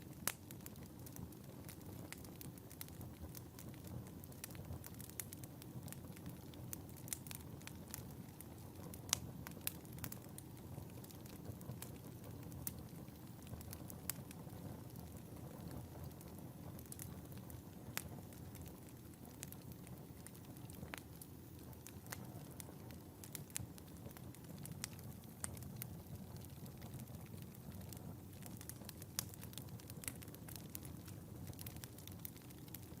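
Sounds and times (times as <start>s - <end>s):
low rumble of flames: 0.0s - 33.0s
wood fire popping and snapping: 0.0s - 33.0s.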